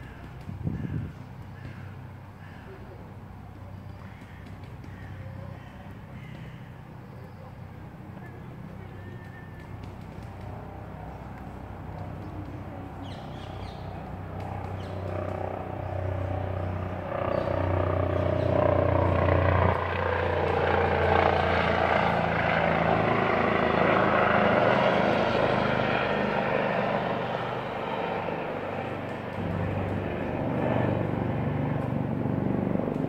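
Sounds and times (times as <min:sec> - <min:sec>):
engine drone passing: 0:04.6 - 0:33.0.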